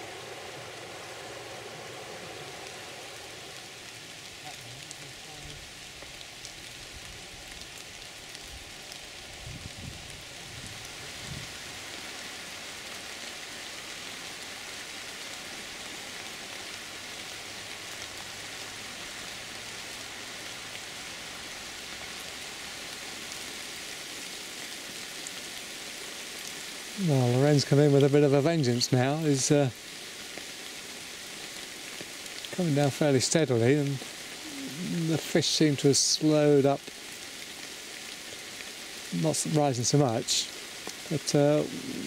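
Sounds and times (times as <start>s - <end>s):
heavy rain hissing: 0.0s - 42.0s.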